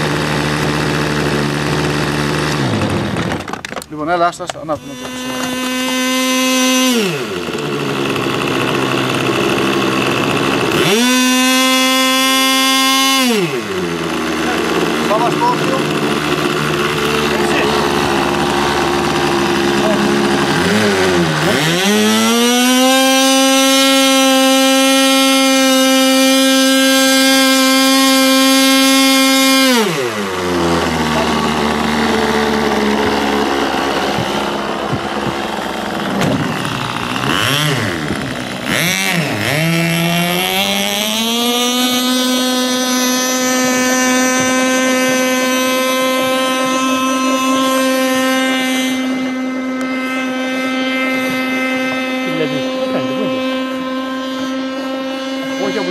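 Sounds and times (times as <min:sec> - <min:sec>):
model boat engine revving: 0:00.0 - 0:55.9.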